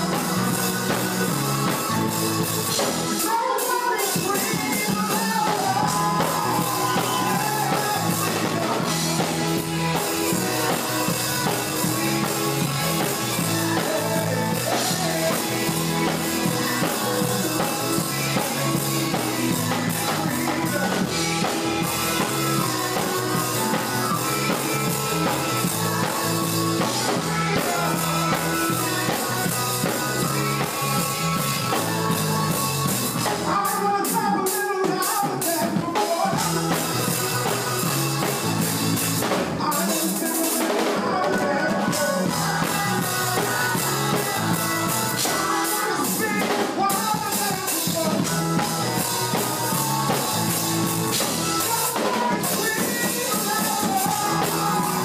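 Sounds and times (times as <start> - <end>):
bass line: 0.0 - 3.2, 4.4 - 33.9, 36.3 - 39.7, 41.6 - 46.6, 47.2 - 55.0
band playing worship song: 0.0 - 55.0
drums and cymbals: 0.0 - 55.0.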